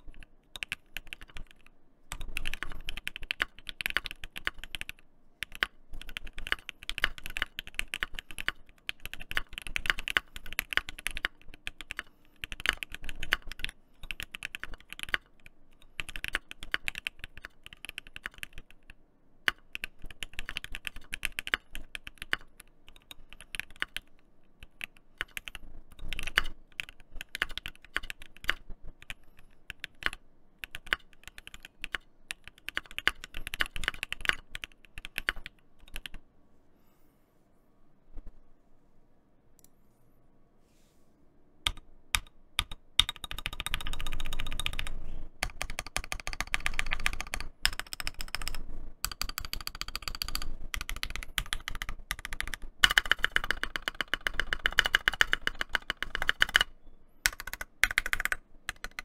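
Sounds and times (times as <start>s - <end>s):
mechanical keyboard typing: 0.0s - 36.2s, 41.6s - 59.0s.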